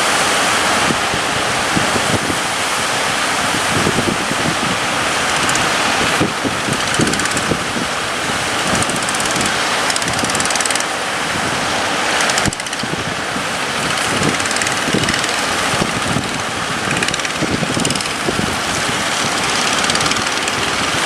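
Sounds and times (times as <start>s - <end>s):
sea waves rushing: 0.0s - 21.0s
wind buffeting microphone: 0.6s - 21.0s
boat engine running: 1.6s - 21.0s.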